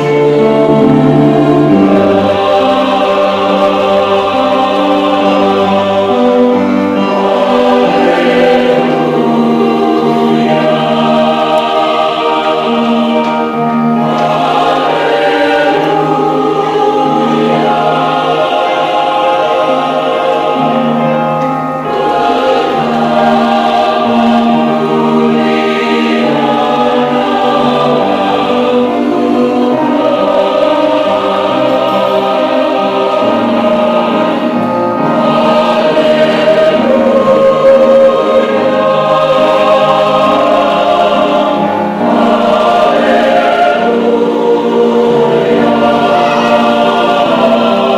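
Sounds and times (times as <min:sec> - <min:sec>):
choir singing: 0:00.0 - 0:47.9.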